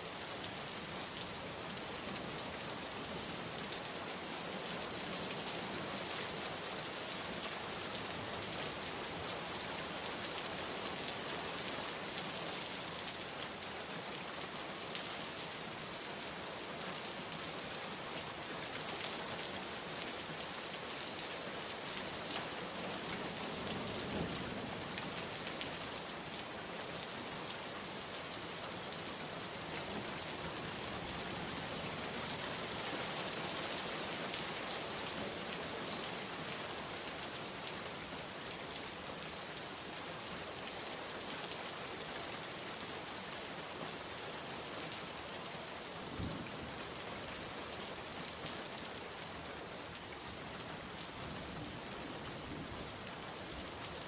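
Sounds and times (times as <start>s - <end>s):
rain pattering on a surface: 0.1s - 54.0s.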